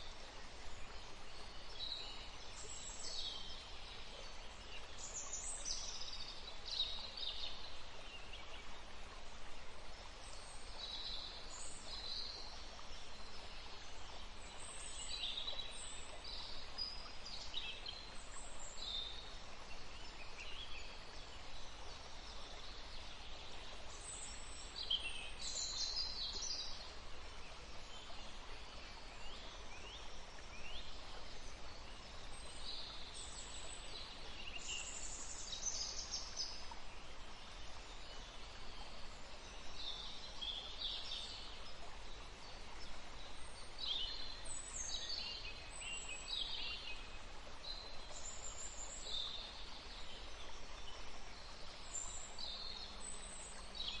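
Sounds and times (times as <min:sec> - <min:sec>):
songbirds chirping: 0:00.0 - 0:54.0
stream flowing: 0:00.0 - 0:54.0.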